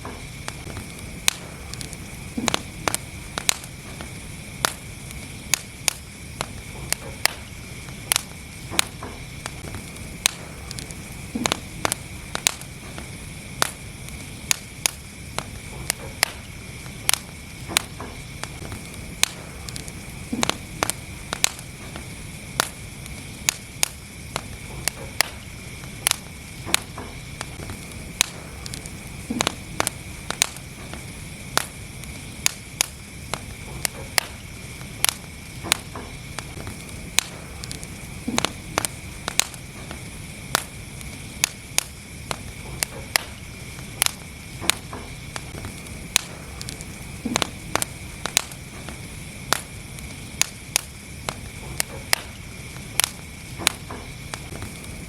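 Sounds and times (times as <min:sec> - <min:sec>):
deep fire pop: 0:00.0 - 0:55.0
fire hiss: 0:00.0 - 0:55.0
fire pops and snaps: 0:00.0 - 0:55.0.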